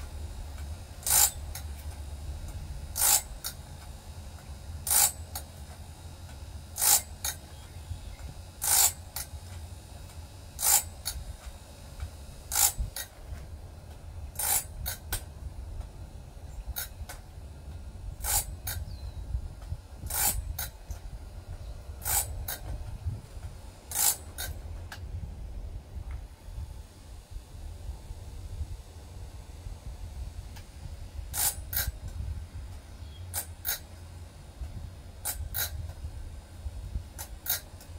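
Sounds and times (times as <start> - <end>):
grinding hiss: 0.0 - 25.0, 26.4 - 37.9
steady motor hum: 0.0 - 37.9.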